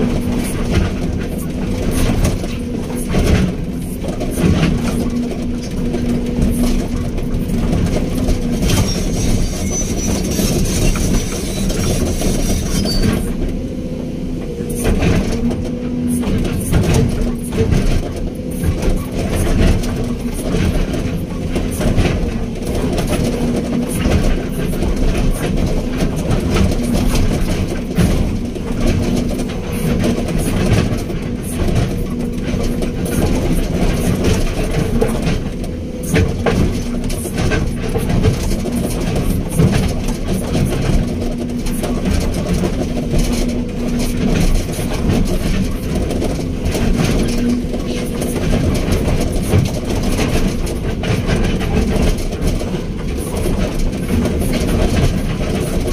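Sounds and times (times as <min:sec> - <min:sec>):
machine clanks and rattles: 0:00.0 - 0:13.6, 0:14.4 - 0:55.9
excavator diesel engine running: 0:00.0 - 0:55.9.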